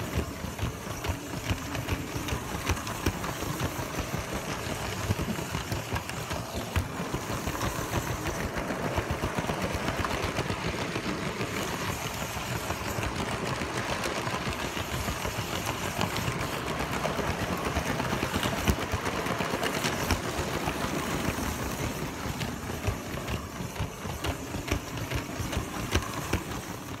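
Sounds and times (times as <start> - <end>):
plastic wheels clattering on track: 0.0 - 27.0
small electric motor running: 0.0 - 27.0.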